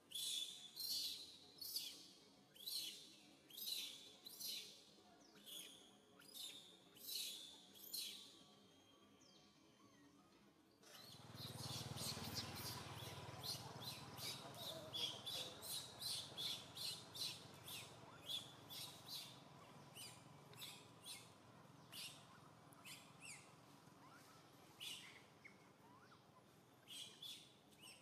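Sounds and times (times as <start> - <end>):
faint outdoor background noise: 0.0 - 28.0.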